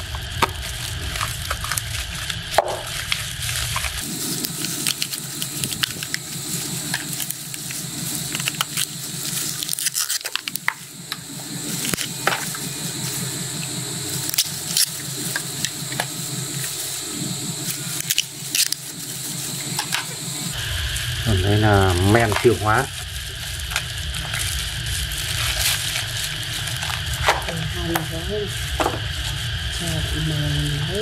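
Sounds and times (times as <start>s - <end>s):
plastic cartons squelching and crinkling: 0.0s - 20.2s, 21.3s - 31.0s
steady low rumble: 0.0s - 31.0s.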